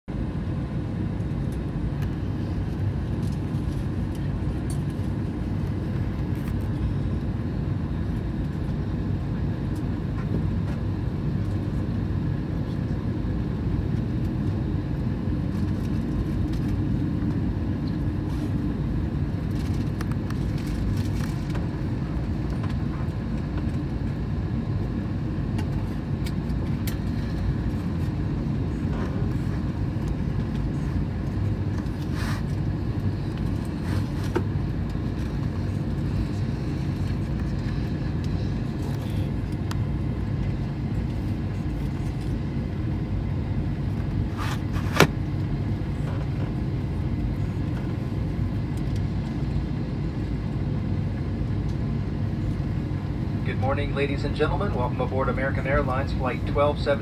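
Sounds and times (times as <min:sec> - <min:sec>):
air-conditioning ventilation rumble: 0:00.1 - 0:57.0.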